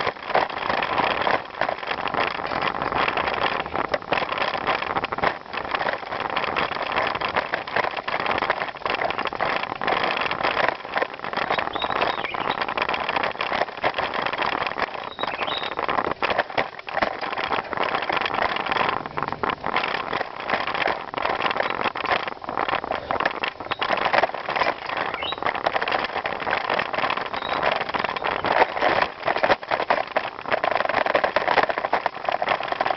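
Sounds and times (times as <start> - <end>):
bicycle clicks and rattles: 0.0 - 32.9
bicycle tyre and ride noise: 0.0 - 32.9.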